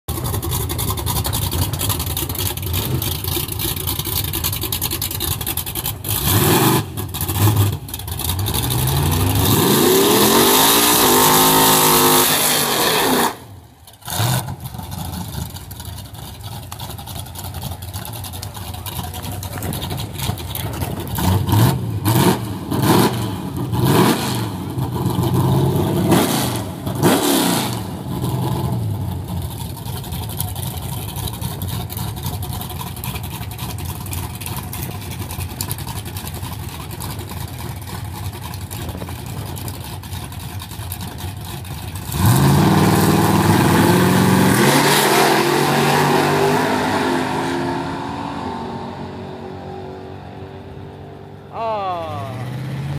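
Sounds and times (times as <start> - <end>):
pickup engine revving: 0.1 - 52.9.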